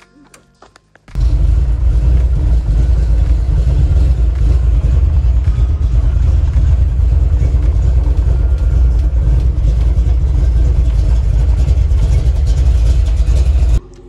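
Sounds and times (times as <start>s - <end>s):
car engine deep rumble: 1.1s - 13.8s.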